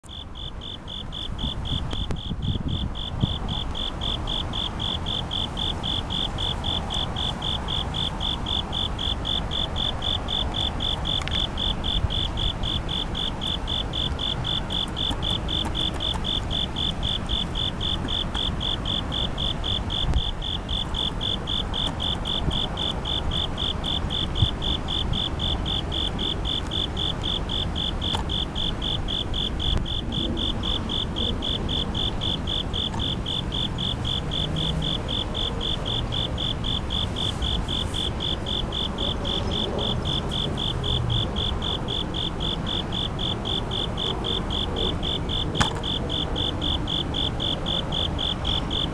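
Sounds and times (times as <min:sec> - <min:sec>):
crickets trilling: 0:00.0 - 0:48.9
distant city traffic rumble: 0:00.0 - 0:48.9.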